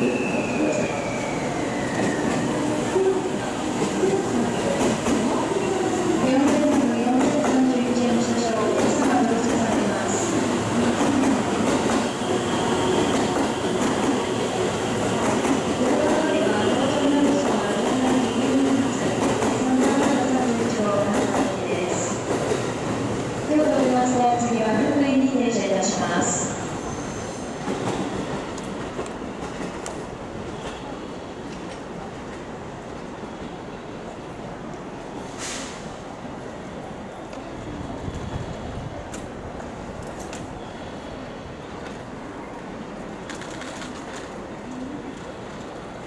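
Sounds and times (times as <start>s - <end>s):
electric train rolling roar: 0.0s - 46.0s.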